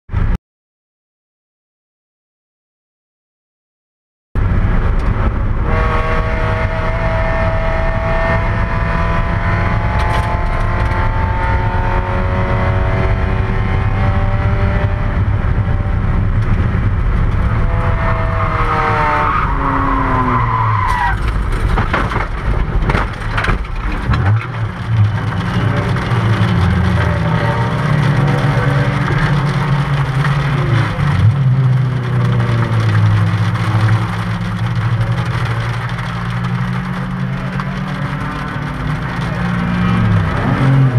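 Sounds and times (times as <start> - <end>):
race car engine revving: 4.4 - 21.5, 23.4 - 40.9.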